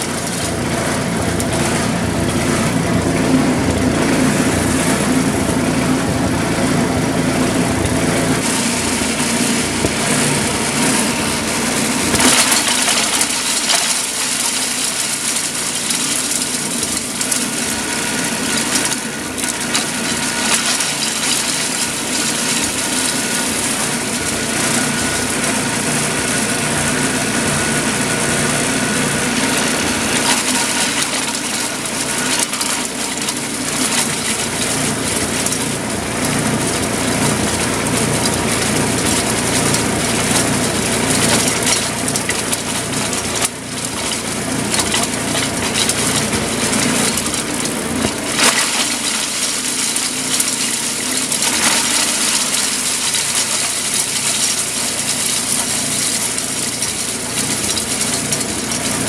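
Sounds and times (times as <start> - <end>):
brush crunching in chipper: 0.0 - 59.0
wood chipper engine running: 0.0 - 59.0.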